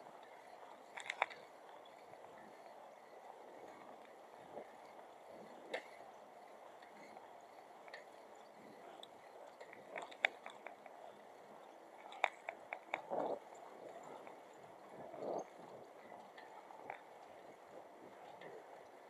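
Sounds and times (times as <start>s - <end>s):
faint background ambience: 0.0s - 19.0s.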